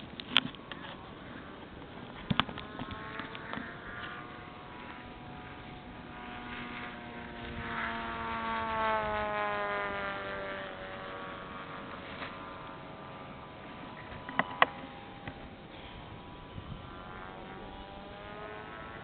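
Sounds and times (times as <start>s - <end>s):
model airplane engine buzzing: 0.0s - 19.0s.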